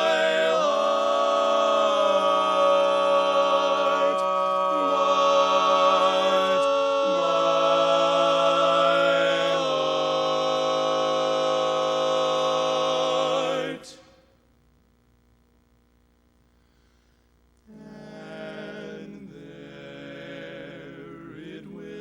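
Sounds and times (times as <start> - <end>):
men singing in close harmony: 0.0 - 14.1, 17.7 - 22.0.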